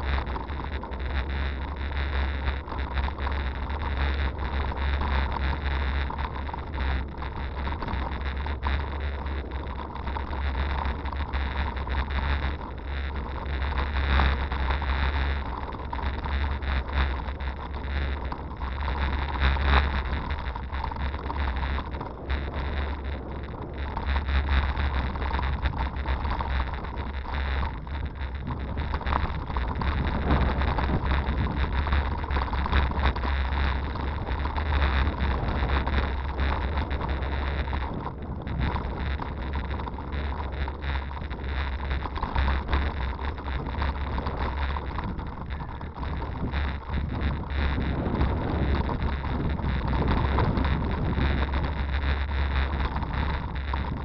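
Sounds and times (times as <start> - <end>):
bicycle tyres on gravel: 0.0 - 54.0
wind rumble on microphone: 0.0 - 54.0.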